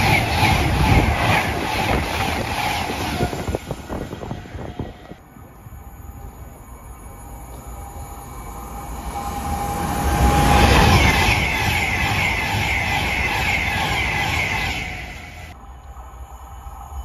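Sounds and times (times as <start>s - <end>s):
electric train passing at speed: 0.0s - 17.0s
rail hum: 0.0s - 17.0s.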